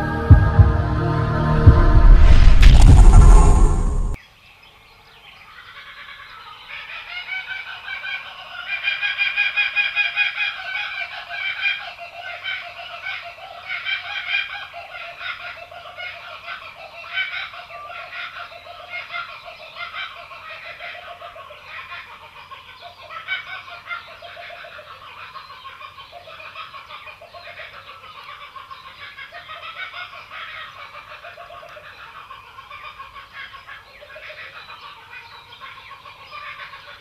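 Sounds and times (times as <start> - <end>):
kookaburra laughing call: 5.5 - 37.0.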